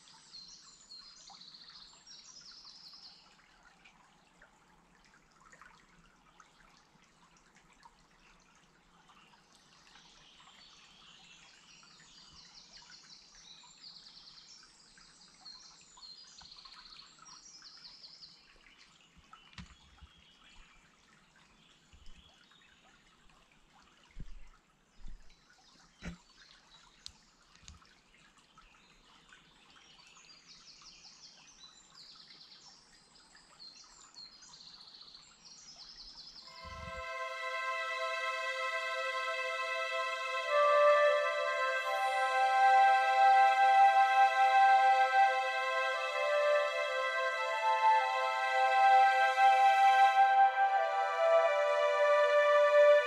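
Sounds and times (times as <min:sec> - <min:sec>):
faint water trickling: 0:00.0 - 0:53.0.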